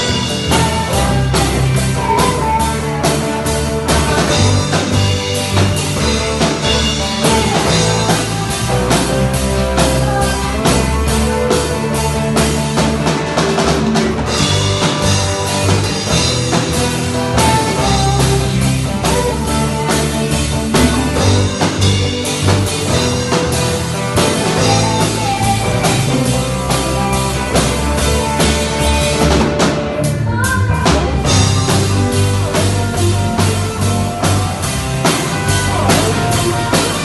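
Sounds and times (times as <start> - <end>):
band playing: 0.0 - 37.0
drum kit beat: 0.0 - 37.0.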